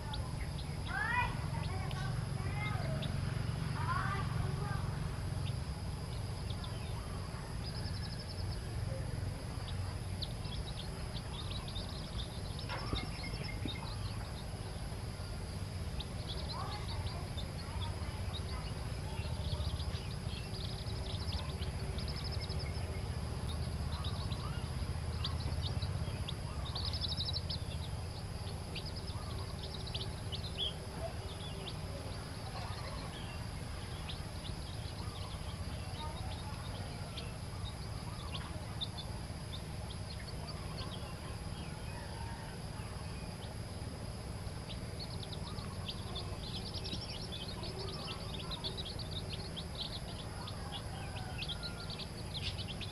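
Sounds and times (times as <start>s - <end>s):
chicks peeping: 0.0s - 52.9s
steady low rumble: 0.0s - 52.9s.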